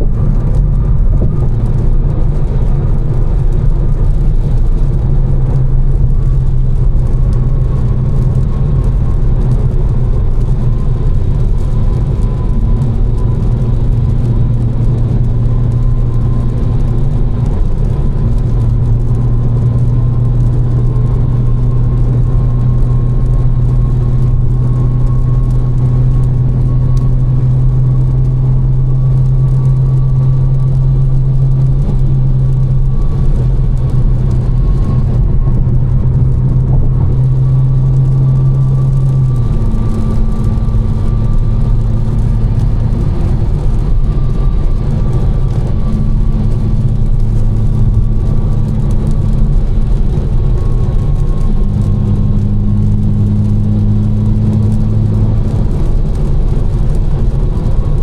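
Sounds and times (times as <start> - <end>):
car engine droning: 0.0 - 58.0
tyre and road noise: 0.0 - 58.0.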